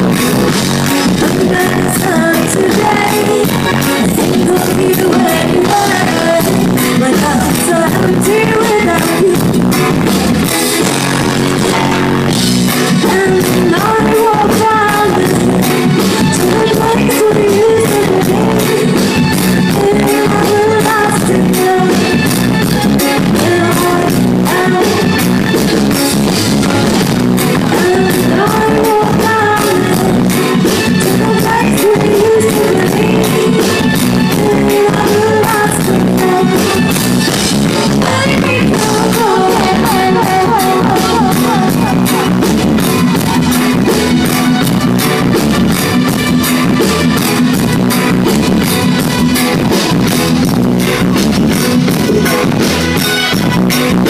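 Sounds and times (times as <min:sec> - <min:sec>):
woman singing lead: 0:00.0 - 0:48.2
drum kit beat: 0:00.0 - 0:54.0
electric guitar: 0:00.0 - 0:54.0
live reggae band playing: 0:00.0 - 0:54.0.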